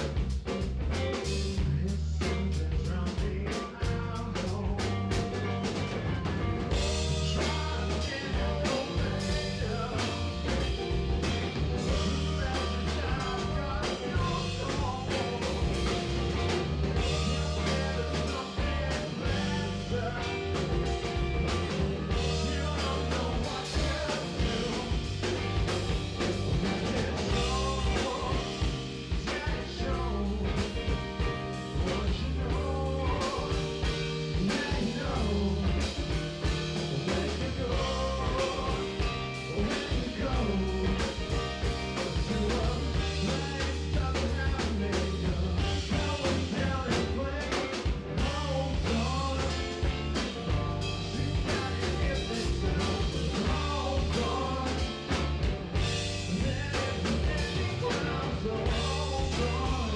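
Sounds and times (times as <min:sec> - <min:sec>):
live rock band playing: 0:00.0 - 0:59.9
electric guitar lead: 0:03.8 - 0:59.9.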